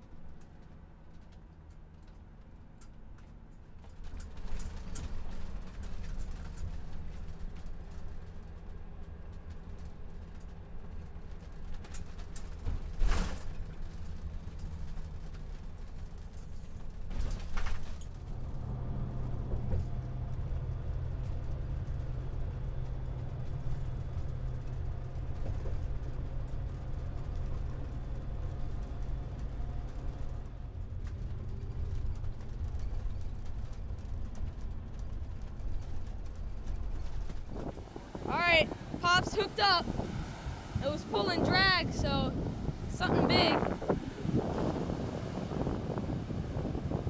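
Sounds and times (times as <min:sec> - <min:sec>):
engine and road drone: 0:00.0 - 0:47.0.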